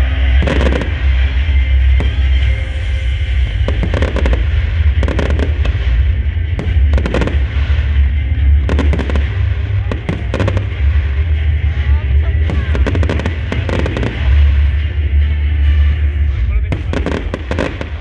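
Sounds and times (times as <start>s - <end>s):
deep rumble: 0.0s - 18.0s
fireworks bangs and crackles: 0.0s - 18.0s.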